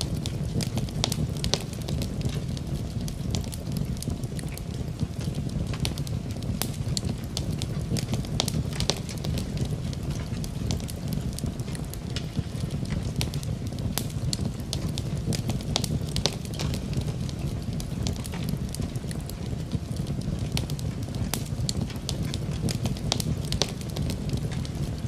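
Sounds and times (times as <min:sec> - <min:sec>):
fire low rumble: 0:00.0 - 0:25.0
wood fire crackling and popping: 0:00.0 - 0:25.0.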